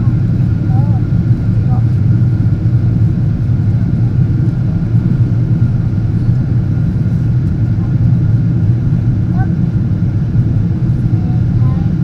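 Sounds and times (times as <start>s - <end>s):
faint steady whine: 0.0s - 12.0s
low rumble of engines and airflow: 0.0s - 12.0s.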